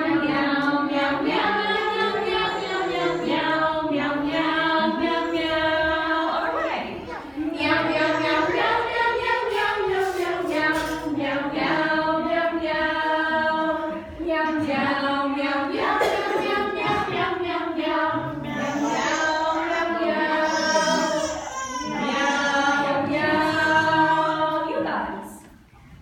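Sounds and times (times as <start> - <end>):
group of voices singing: 0.0 - 25.4.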